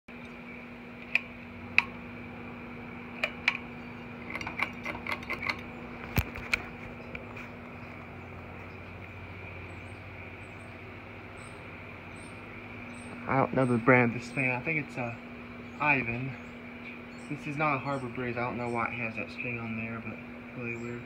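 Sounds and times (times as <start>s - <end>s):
ceiling fan humming: 0.1s - 21.0s.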